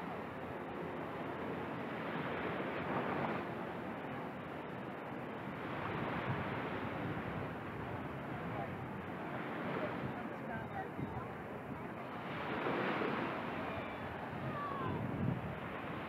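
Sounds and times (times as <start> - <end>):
waves washing onto beach: 0.0 - 16.0.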